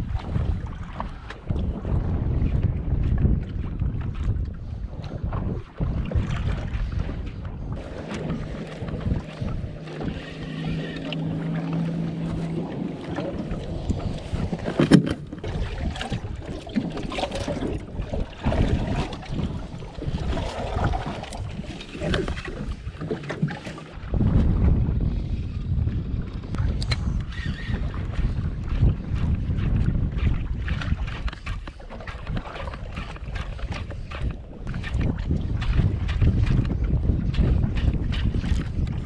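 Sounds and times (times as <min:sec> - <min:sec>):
water slapping against boat hull: 0:00.0 - 0:24.9, 0:25.9 - 0:39.0
wind buffeting microphone: 0:00.0 - 0:39.0.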